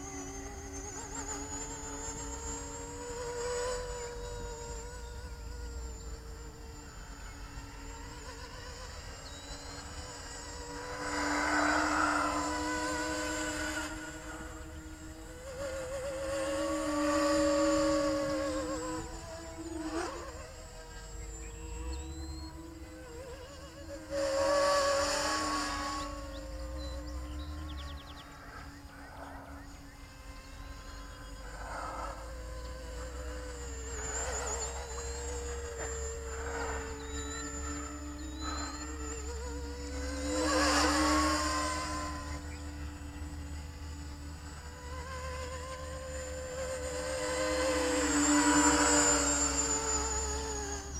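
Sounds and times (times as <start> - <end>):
model plane propellers buzzing: 0.0 - 50.9.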